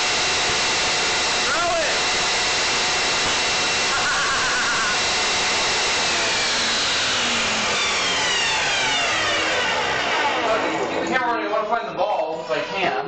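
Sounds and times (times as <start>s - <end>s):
table saw whining: 0.0s - 13.0s.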